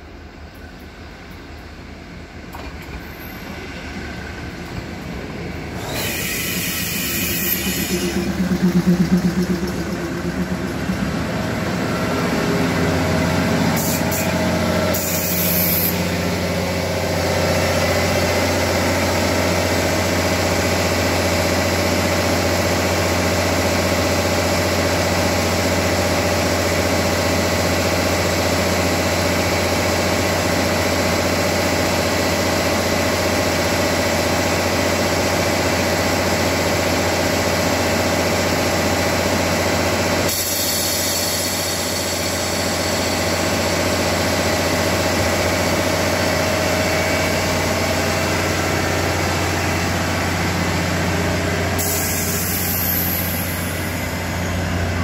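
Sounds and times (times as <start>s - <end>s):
diesel train engines idling: 0.0s - 55.0s.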